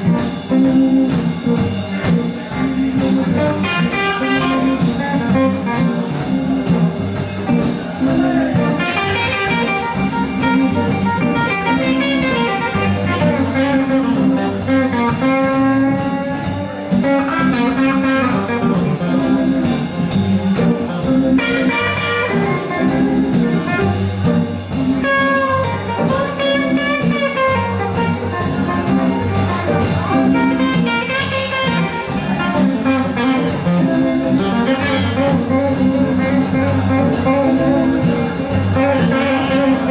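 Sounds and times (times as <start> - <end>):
live blues band playing: 0.0 - 39.9
sliding lead guitar line: 0.0 - 39.9.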